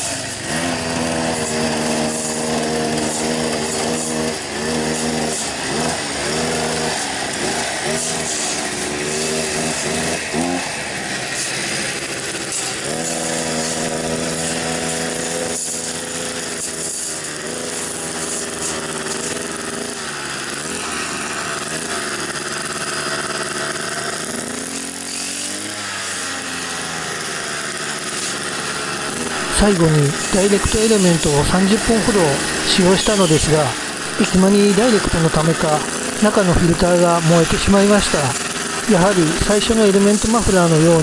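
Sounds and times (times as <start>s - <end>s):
brush cutter engine: 0.0s - 41.0s.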